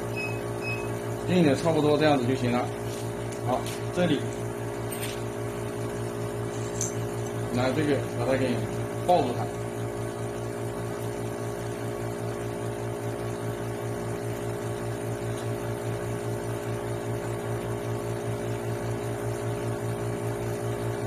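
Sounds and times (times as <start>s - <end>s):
lab machinery humming: 0.0s - 21.0s.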